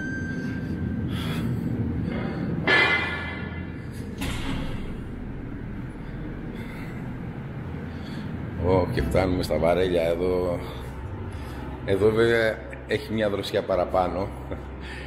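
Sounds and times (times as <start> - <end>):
air conditioning hum: 0.0 - 15.0.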